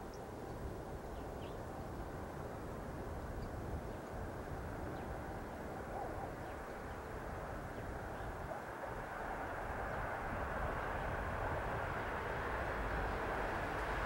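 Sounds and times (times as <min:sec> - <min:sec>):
distant train rumble: 0:00.0 - 0:14.0.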